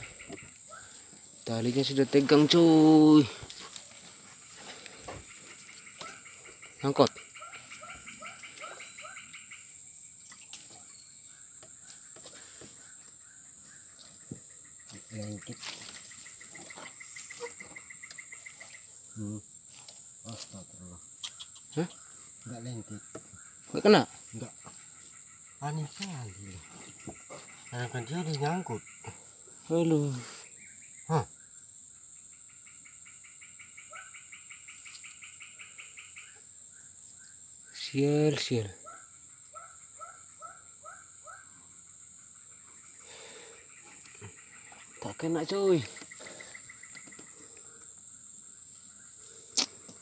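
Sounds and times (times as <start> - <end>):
faint bird chirps: 0.0 - 19.4, 20.2 - 50.0
high insect drone: 0.0 - 50.0
repeated animal calls: 0.0 - 50.0.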